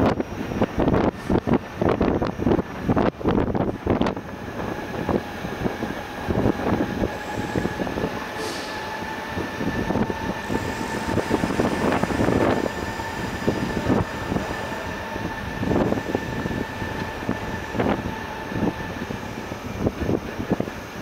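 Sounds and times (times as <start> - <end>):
electric train whine: 0.0 - 21.0.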